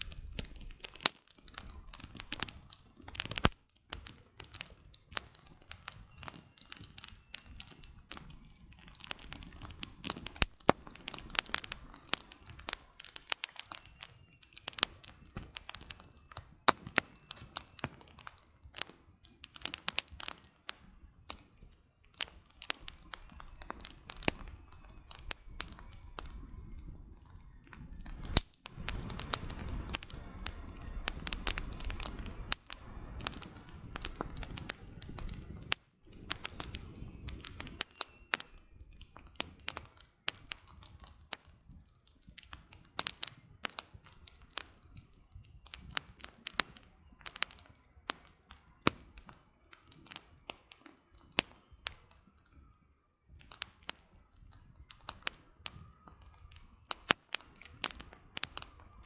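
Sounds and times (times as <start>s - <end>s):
campfire crackling and popping: 0.0s - 59.0s
low rushing of flames: 0.0s - 59.0s.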